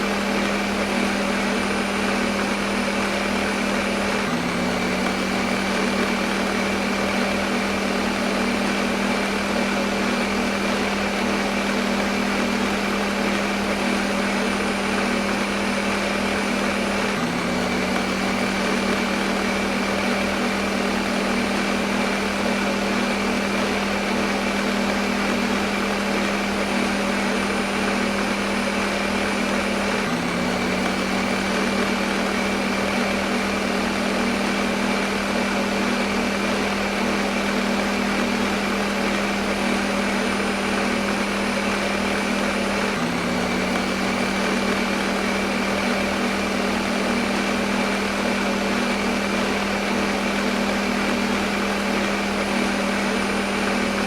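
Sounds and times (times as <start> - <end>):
blender motor running: 0.0 - 54.0.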